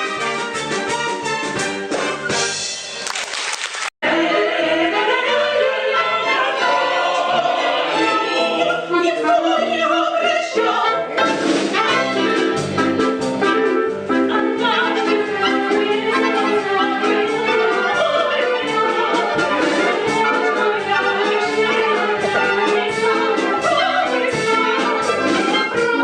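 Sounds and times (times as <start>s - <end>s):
brass: 0.0s - 3.3s, 4.0s - 26.0s
operetta singing with orchestra: 4.0s - 26.0s.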